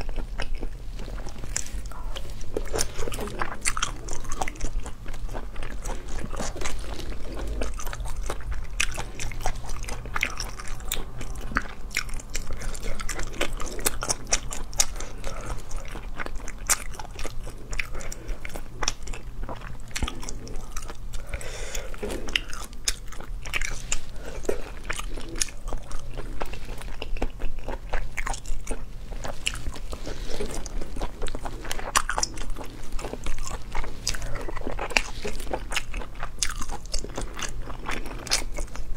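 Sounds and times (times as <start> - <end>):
chewing and biting: 0.0 - 38.9
faint low hum: 0.0 - 38.9.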